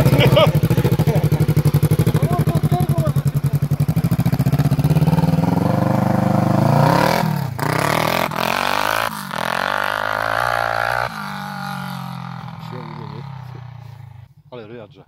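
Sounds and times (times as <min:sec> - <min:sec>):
quad engine accelerating: 0:00.0 - 0:14.3.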